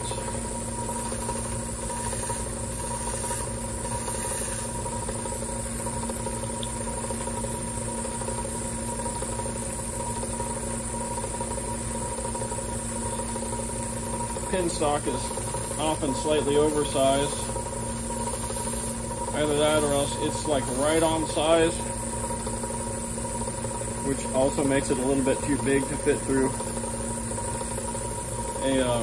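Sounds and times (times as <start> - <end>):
belt grinder humming and whining: 0.0 - 10.0, 11.1 - 29.0.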